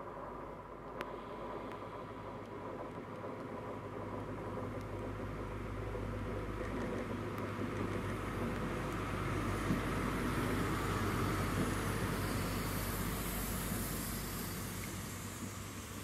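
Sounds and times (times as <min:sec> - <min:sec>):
diesel train engine drone: 0:00.0 - 0:16.0
train wheels rumbling and hissing: 0:00.0 - 0:16.0.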